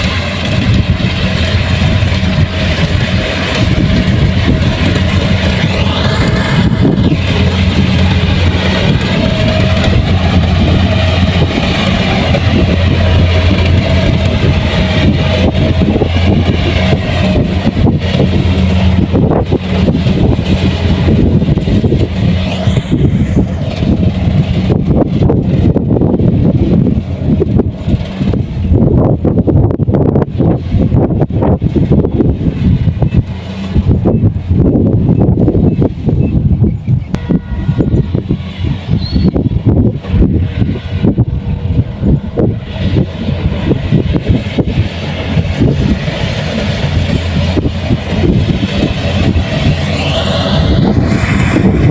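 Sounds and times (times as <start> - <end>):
combine harvester diesel engine: 0.0 - 51.9.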